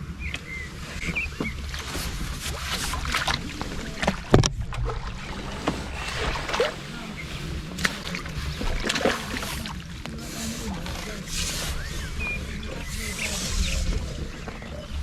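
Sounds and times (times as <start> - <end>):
wind on microphone: 0.0 - 15.0
water splashing and sloshing: 0.3 - 15.0.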